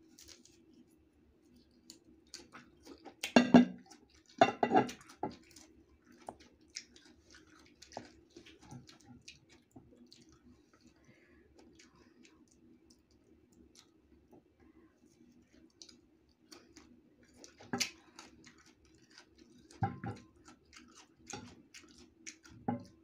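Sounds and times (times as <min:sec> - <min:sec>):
chewing crisp mango slices: 0:00.0 - 0:23.0.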